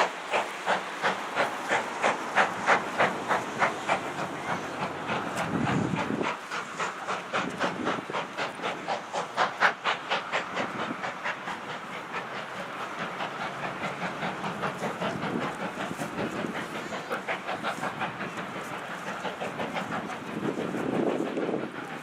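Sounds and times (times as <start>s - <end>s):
steam hiss: 0.0s - 22.0s
steam locomotive chuffing: 0.0s - 22.0s.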